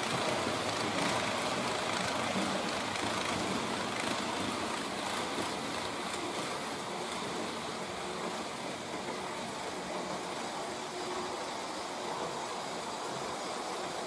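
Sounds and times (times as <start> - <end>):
model train wheels rumbling: 0.0 - 14.0.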